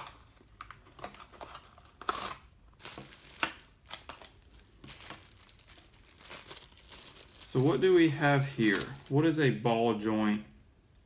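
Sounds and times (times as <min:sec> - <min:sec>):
packaging rustling: 0:00.0 - 0:09.2.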